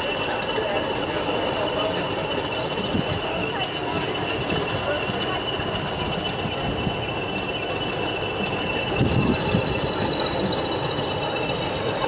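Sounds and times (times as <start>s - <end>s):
diesel locomotive engine rumble: 0.0s - 12.0s
train wheels squealing: 0.0s - 12.0s.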